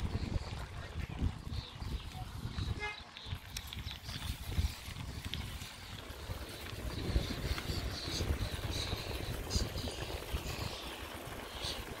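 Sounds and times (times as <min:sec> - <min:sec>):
road rumble: 0:00.0 - 0:12.0
wind buffeting microphone: 0:00.0 - 0:12.0.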